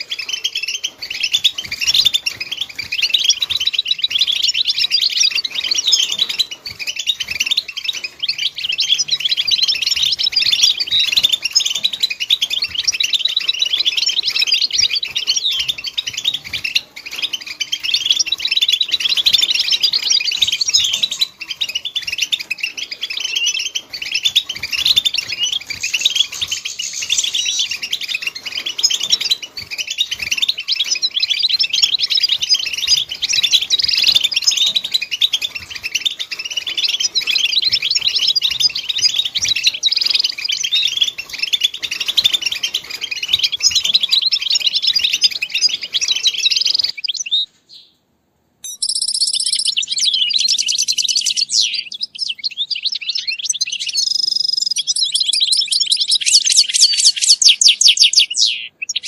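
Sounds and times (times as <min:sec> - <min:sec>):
goldfinch twittering song: 0:00.0 - 0:47.5, 0:48.6 - 0:59.0.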